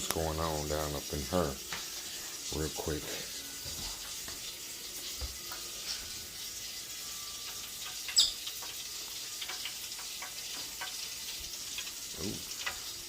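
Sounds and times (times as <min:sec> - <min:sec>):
meat sizzling in hot fat: 0:00.0 - 0:13.0.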